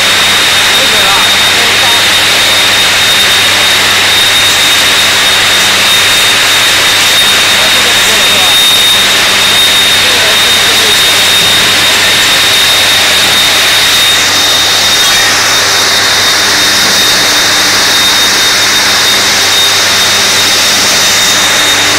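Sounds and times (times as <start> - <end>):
furnace burners rushing: 0.0 - 21.9
high-pitched whine: 0.0 - 21.9.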